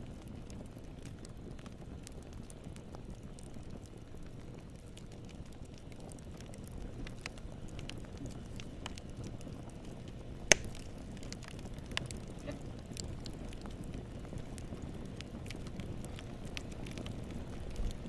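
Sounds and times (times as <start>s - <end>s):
sharp crackles and pops: 0.0s - 18.0s.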